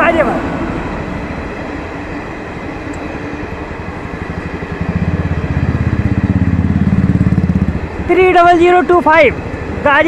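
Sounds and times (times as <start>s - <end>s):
motorcycle engine: 0.0s - 10.0s
train coaches rumbling past: 0.0s - 10.0s.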